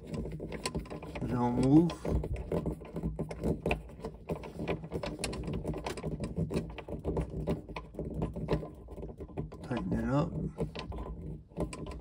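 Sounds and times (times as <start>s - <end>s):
screwdriver turning a screw: 0.0s - 12.0s.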